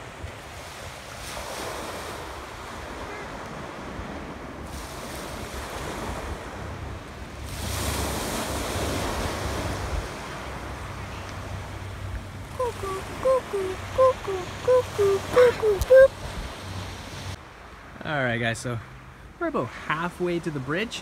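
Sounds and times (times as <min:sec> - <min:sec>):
wind rumbling on microphone: 0:00.0 - 0:17.4
waves washing on shore: 0:00.0 - 0:17.9.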